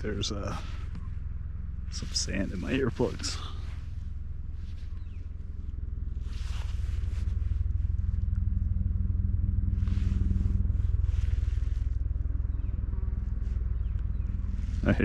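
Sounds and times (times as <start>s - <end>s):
helicopter rotor beat: 0.0s - 15.0s.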